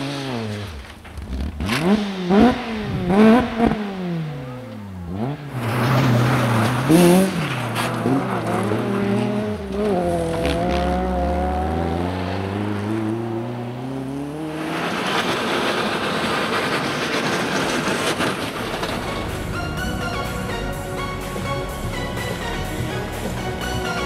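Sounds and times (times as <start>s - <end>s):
steady rushing noise: 0.0s - 13.1s, 14.0s - 24.0s
rally car engine revving: 0.0s - 24.0s.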